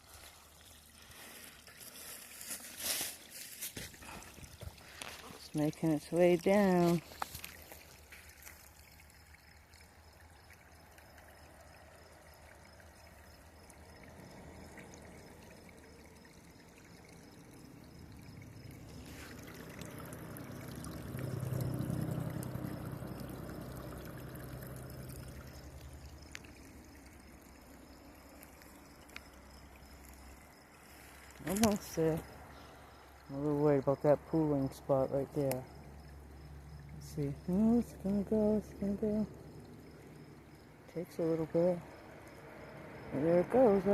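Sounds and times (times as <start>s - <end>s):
water trickling down stream bed: 0.0s - 43.9s.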